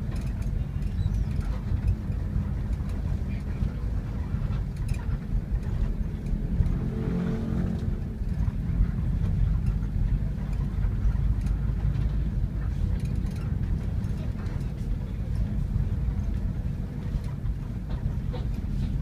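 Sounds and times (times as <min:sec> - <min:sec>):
diesel bus engine running: 0:00.0 - 0:19.0
road noise: 0:00.0 - 0:19.0.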